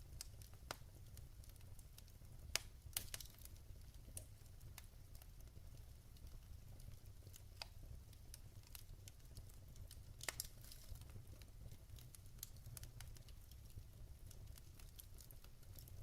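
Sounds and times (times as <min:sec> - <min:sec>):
logs crackling and popping: 0:00.0 - 0:16.0
soft low fire rumble: 0:00.0 - 0:16.0.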